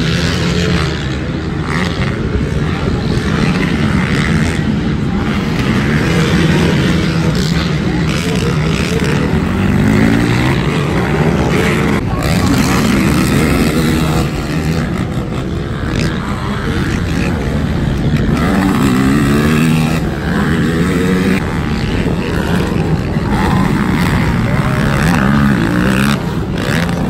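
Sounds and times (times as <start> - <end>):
quad engines revving: 0.0 - 27.0.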